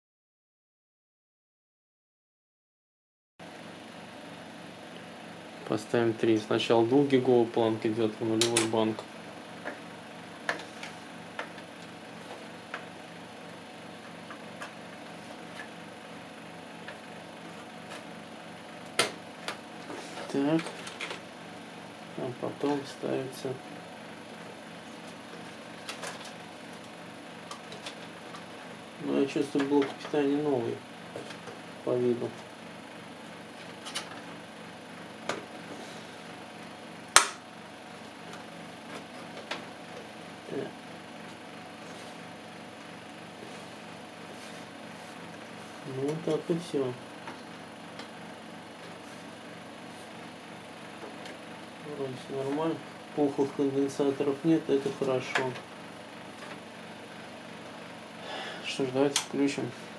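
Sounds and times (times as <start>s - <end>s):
faint steady hum: 3.4s - 59.9s.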